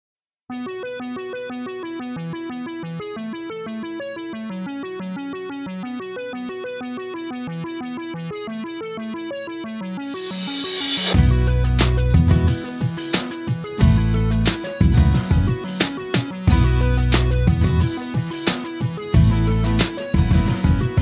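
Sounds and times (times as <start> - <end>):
synthesizer arpeggio: 0.5 - 21.0.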